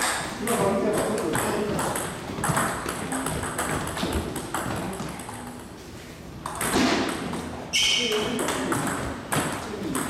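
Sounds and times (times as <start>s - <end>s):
table tennis balls clicking: 0.0s - 5.7s, 6.4s - 10.0s.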